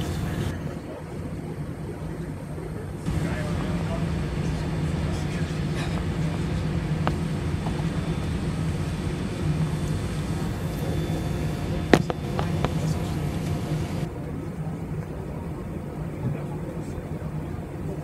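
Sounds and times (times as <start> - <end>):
jet engines humming: 0.0 - 18.0.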